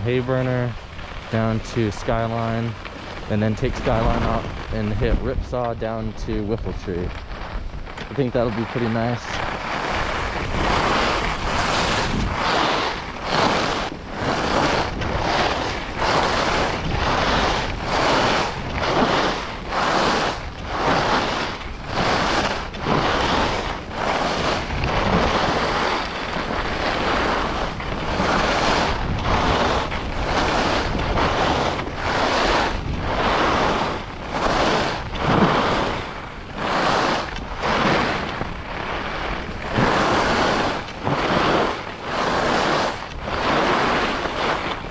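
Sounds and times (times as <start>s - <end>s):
skis scraping on snow: 0.0s - 44.9s
wind on microphone: 0.0s - 44.9s.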